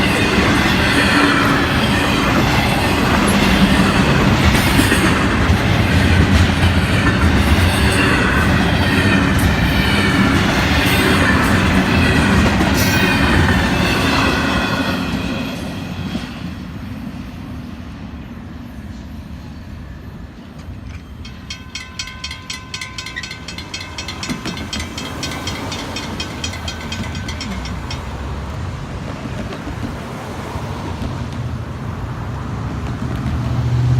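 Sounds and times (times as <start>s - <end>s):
train wheel squeal: 0.0s - 17.4s, 18.2s - 28.3s
freight train rumbling on rails: 0.0s - 33.9s.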